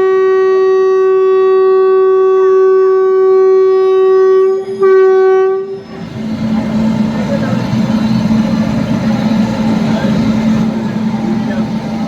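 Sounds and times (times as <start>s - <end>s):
train horn blast: 0.0s - 12.0s.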